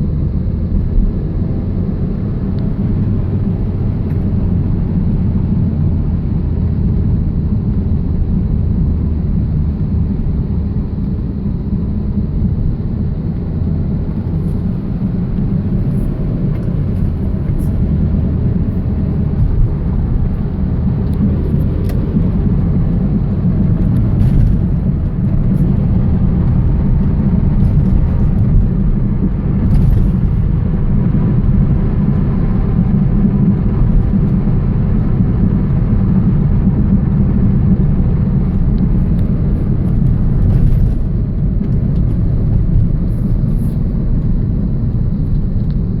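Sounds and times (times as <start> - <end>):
car low rumbling drone: 0.0 - 46.0.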